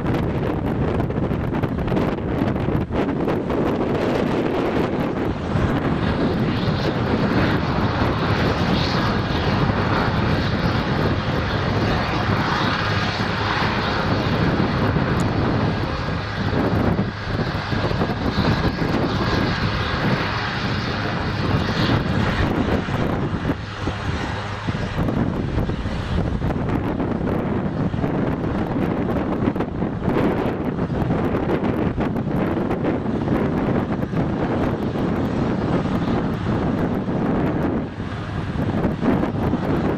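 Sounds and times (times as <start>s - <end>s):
helicopter engines and rotor: 0.0s - 39.9s.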